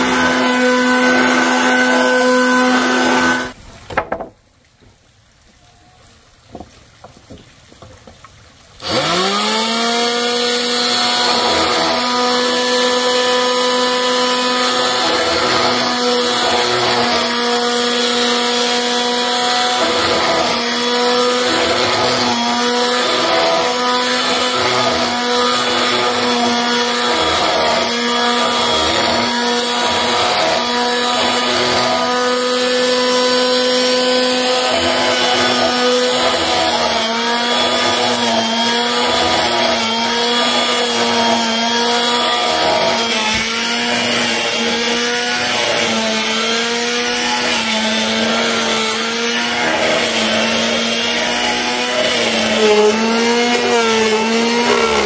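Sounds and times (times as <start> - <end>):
power tool running under load: 0.0 - 3.6, 8.8 - 55.0.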